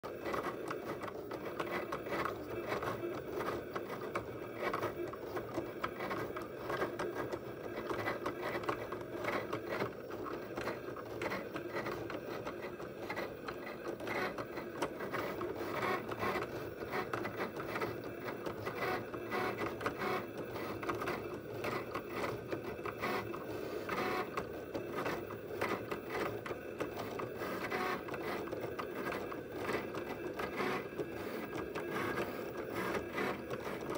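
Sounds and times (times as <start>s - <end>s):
cutting machine motors whirring: 0.0s - 33.9s.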